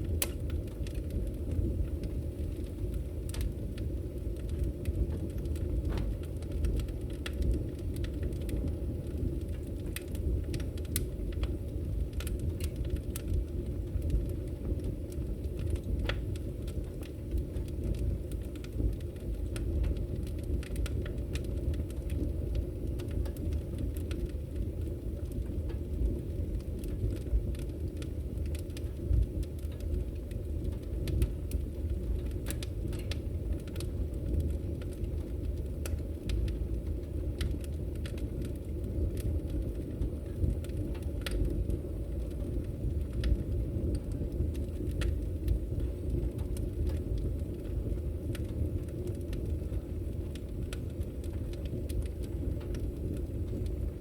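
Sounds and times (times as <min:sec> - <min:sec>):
fire crackles and pops: 0:00.0 - 0:54.0
low rush of fire: 0:00.0 - 0:54.0.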